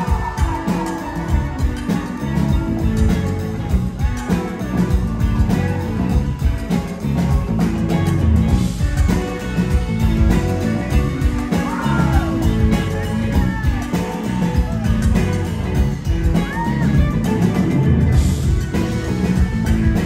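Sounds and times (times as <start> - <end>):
bass guitar: 0.0 - 20.0
drums with regular beat: 0.0 - 20.0
electric guitars: 0.0 - 20.0
keyboard: 0.0 - 20.0.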